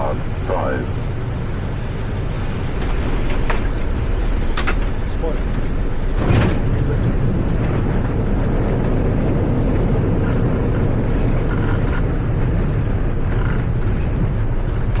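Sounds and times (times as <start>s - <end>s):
loud rumble in aircraft cockpit: 0.0s - 15.0s.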